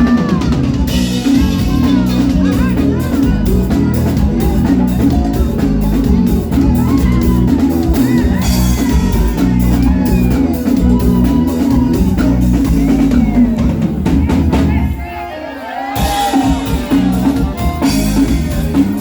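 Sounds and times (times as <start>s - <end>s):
drum kit beat: 0.0s - 19.0s
live band music: 0.0s - 19.0s.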